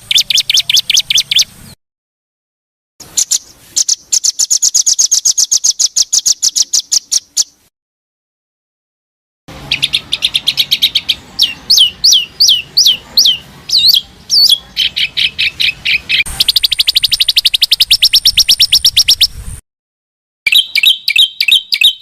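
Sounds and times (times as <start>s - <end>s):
songbird singing: 0.0s - 1.8s, 3.0s - 7.7s, 9.5s - 19.5s, 20.5s - 22.0s.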